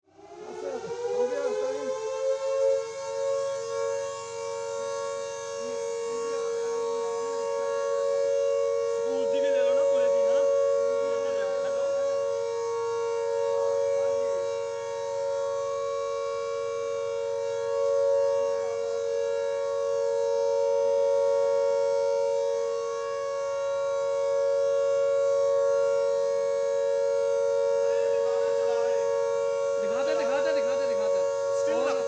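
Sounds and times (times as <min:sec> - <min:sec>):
air raid siren wailing: 0:00.0 - 0:32.0.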